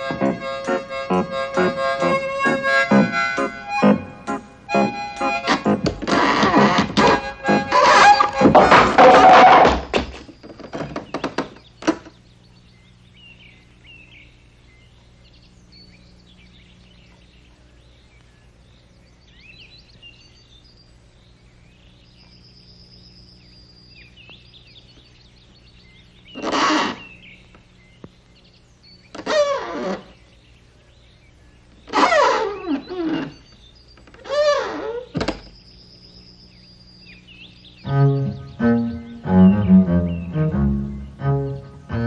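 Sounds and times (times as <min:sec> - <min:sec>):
faint birds chirping: 0:00.0 - 0:42.0
steady low hum: 0:00.0 - 0:42.0.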